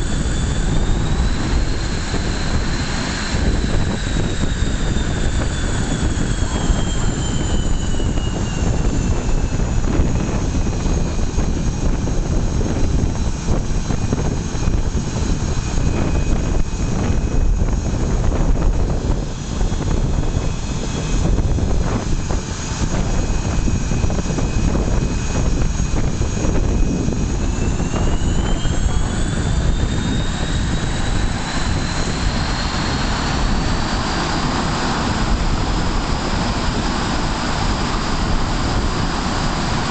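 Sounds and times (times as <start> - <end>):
high turbine whine: 0.0 - 39.9
jet engines roaring: 0.0 - 39.9.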